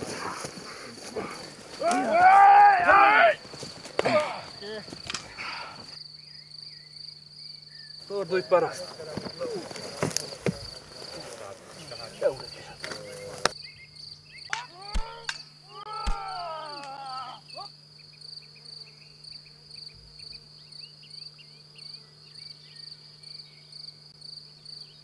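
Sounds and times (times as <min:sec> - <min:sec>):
cricket chirping trill: 0:00.0 - 0:25.0.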